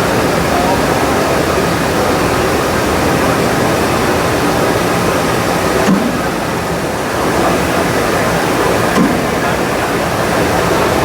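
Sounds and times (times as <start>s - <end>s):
machinery and ventilation rushing: 0.0s - 11.0s.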